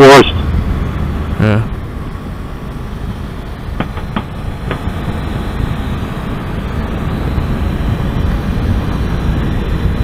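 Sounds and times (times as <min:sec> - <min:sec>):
road noise: 0:00.0 - 0:10.0
motorcycle engine running: 0:00.2 - 0:10.0
wind rushing over microphone: 0:00.3 - 0:10.0.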